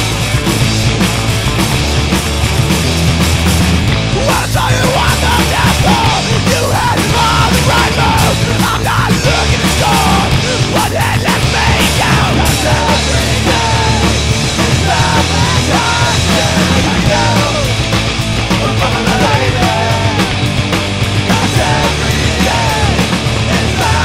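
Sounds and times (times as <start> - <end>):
rock song with singing: 0.0 - 24.0.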